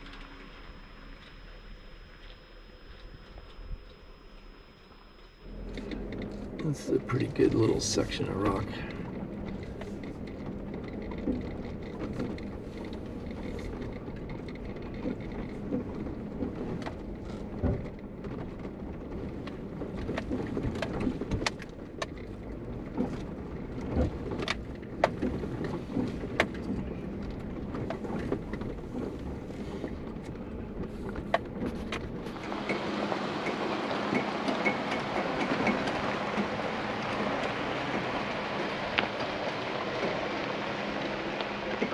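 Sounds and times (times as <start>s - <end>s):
engine and road rumble: 0.0s - 41.9s.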